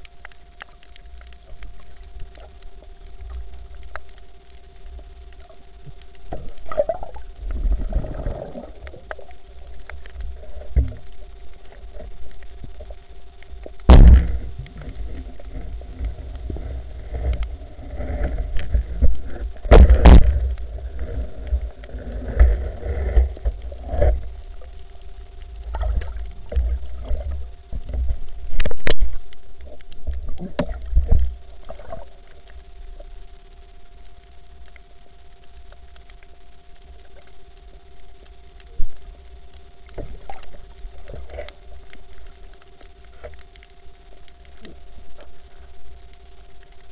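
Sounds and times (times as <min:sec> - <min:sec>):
faint steady hum: 0:00.0 - 0:46.9
underwater rumbling and bumping: 0:00.0 - 0:46.9.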